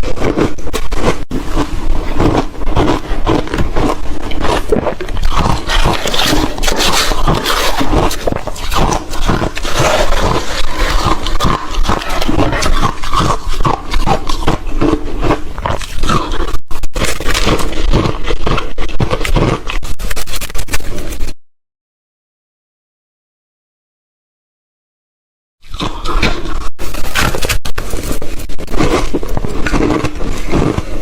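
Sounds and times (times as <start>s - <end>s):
ice crunching and chewing: 0.0s - 21.3s, 25.6s - 31.0s.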